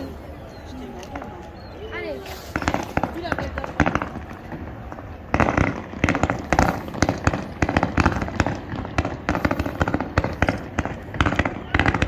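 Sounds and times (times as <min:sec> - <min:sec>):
fireworks bursting with bangs: 0:00.8 - 0:12.0.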